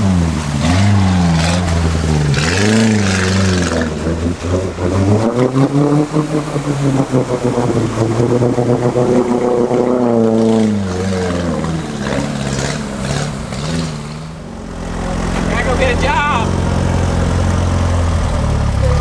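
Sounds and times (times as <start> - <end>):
off-road vehicle engine revving: 0.0 - 19.0
water splashing: 0.0 - 19.0.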